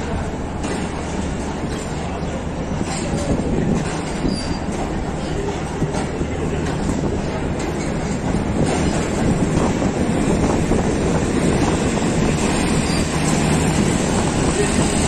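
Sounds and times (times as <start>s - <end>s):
low train rumble: 0.0s - 15.0s
train wheels clattering on rails: 0.0s - 15.0s.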